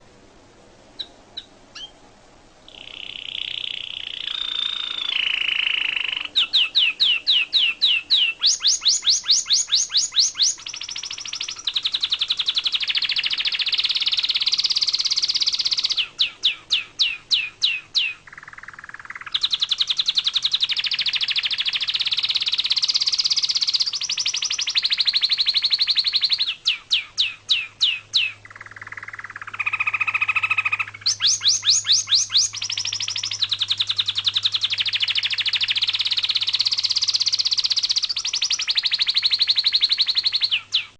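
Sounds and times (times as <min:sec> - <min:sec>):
canary singing trills: 0:00.9 - 0:02.0, 0:02.7 - 0:40.9.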